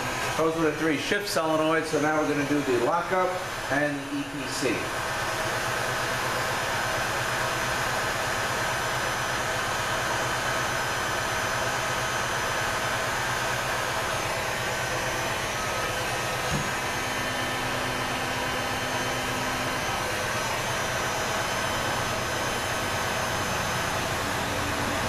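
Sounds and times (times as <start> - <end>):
heat gun blowing: 0.0 - 25.0.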